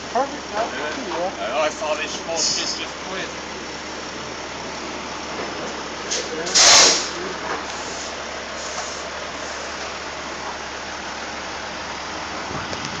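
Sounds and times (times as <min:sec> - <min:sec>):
heavy truck engine idling: 0:00.0 - 0:13.0.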